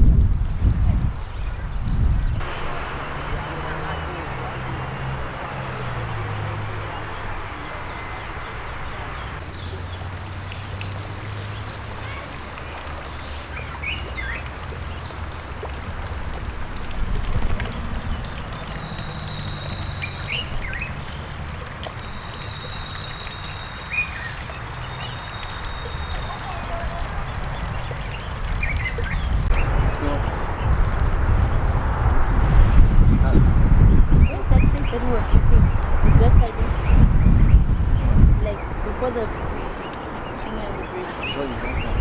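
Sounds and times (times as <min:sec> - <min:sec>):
birds chirping: 0:00.0 - 0:42.0
low outdoor rumble: 0:00.0 - 0:42.0.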